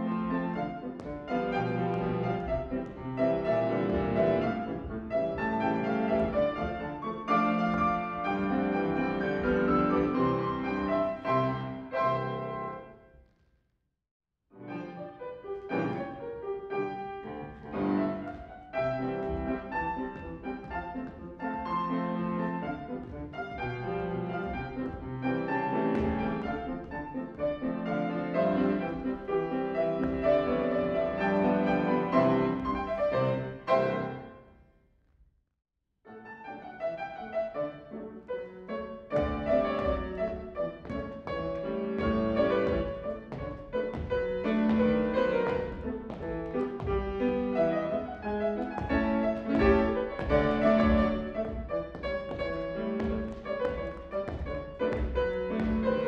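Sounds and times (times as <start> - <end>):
piano playing classical exercises: 0.0 - 13.2, 14.5 - 34.7, 36.1 - 56.0.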